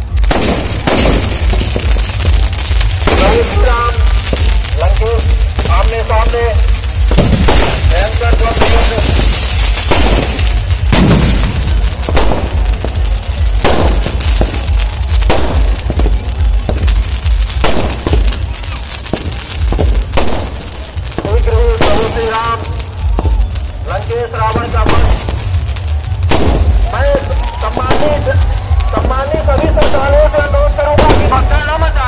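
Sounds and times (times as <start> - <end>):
fireworks bangs and pops: 0.0 - 32.0
heavy low rumble: 0.0 - 32.0.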